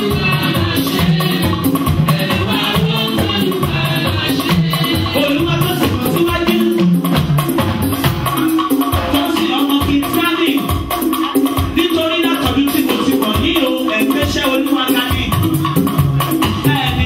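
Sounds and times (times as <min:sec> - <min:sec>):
drums and shakers beat: 0:00.0 - 0:17.0.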